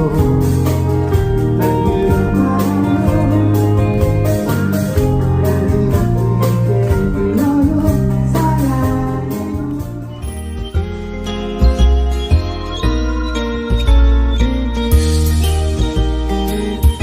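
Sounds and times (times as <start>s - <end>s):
live band music with guitar: 0.0s - 17.0s.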